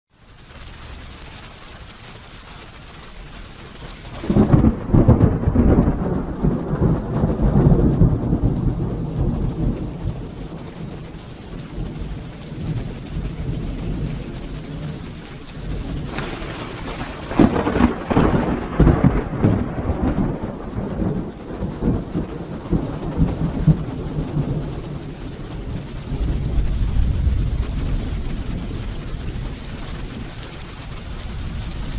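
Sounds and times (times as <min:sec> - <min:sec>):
rain falling: 0:00.1 - 0:31.9
thunder rolling: 0:03.7 - 0:31.9.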